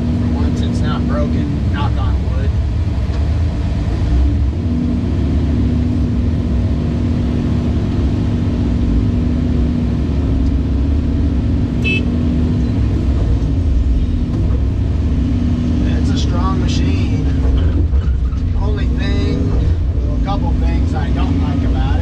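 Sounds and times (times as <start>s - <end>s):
excavator diesel engine rumbling: 0.0s - 22.0s.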